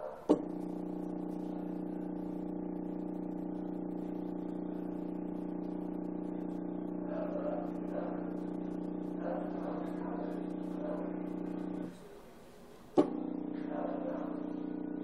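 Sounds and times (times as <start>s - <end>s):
stepper motor hum: 0.0s - 15.0s.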